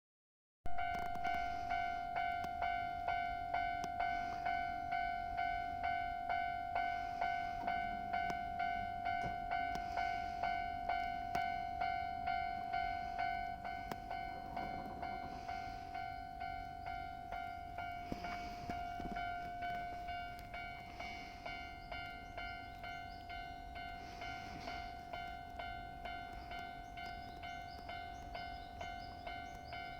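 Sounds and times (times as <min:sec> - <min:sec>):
level crossing bell ringing: 0:00.7 - 0:29.9
train rumbling: 0:00.7 - 0:29.9.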